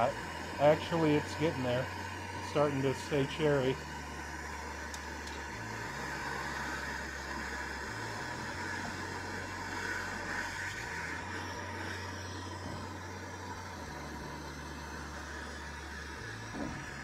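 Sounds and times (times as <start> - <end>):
gas torch hissing: 0.0 - 17.0.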